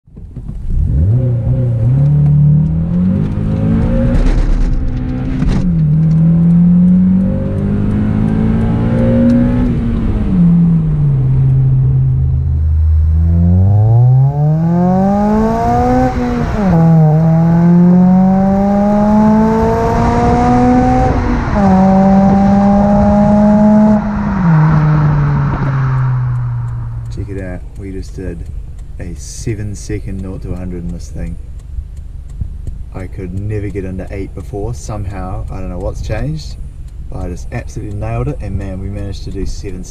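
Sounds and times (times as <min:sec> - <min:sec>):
car engine revving through gears: 0:00.2 - 0:39.9.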